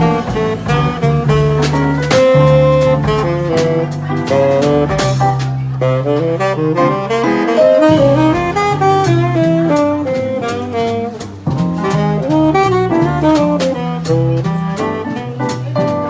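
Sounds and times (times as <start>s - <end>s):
saxophone melody: 0.0s - 15.9s
bass and drums: 0.0s - 16.0s.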